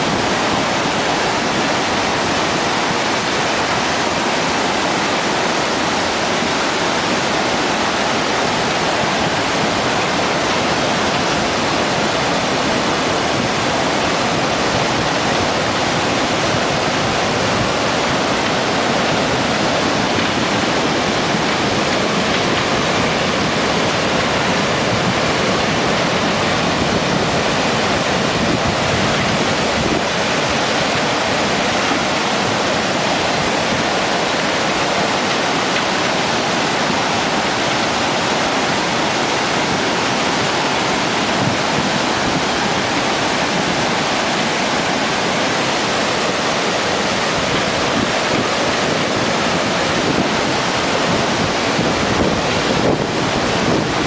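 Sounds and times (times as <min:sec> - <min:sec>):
rushing floodwater: 0:00.0 - 0:54.0.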